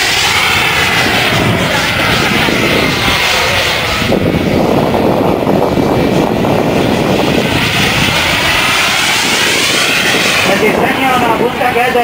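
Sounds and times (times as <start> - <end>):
model jet turbine rush: 0.0 - 12.0.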